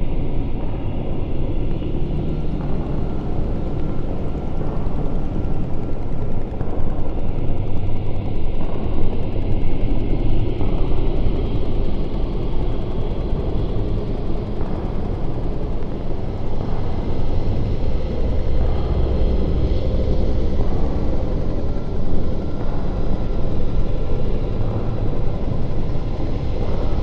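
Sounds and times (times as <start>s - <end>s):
dark ambient drone: 0.0s - 27.0s.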